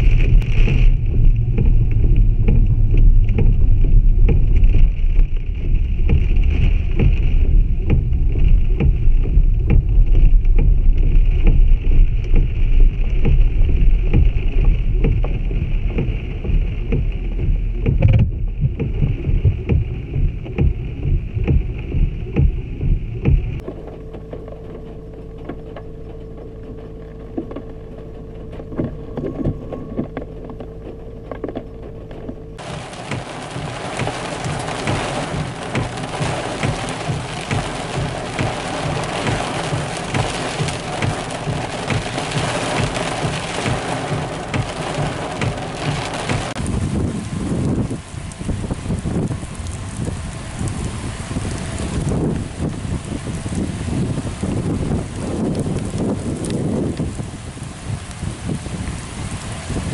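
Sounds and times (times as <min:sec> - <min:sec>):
low rumble: 0:00.0 - 0:59.9
rain on vehicle roof: 0:00.0 - 0:59.9.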